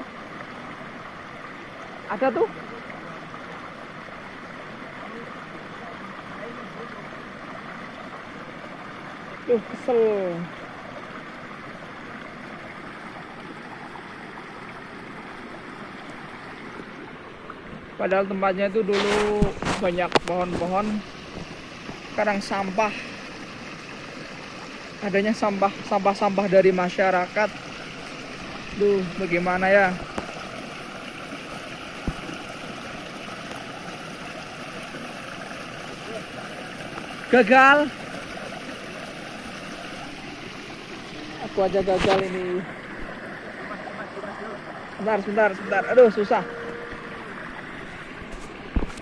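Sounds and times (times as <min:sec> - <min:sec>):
river water rushing over rocks: 0:00.0 - 0:49.0.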